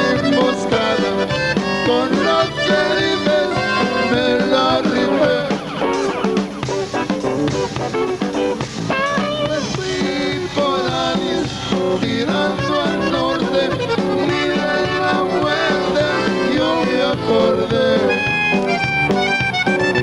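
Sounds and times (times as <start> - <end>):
accordion: 0.0 - 20.0
live band playing: 0.0 - 20.0.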